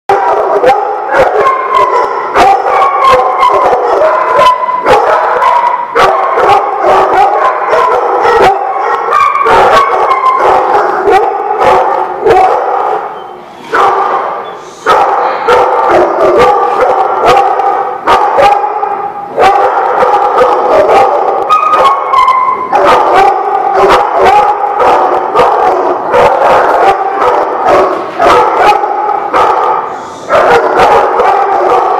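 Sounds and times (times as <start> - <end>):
dogs barking and howling: 0.1 - 31.9.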